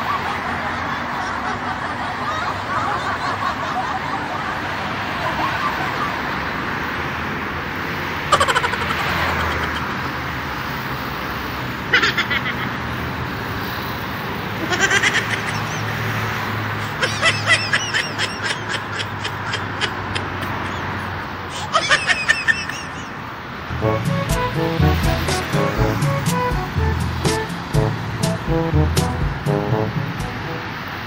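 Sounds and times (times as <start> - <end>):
cars passing on road: 0.0 - 31.0.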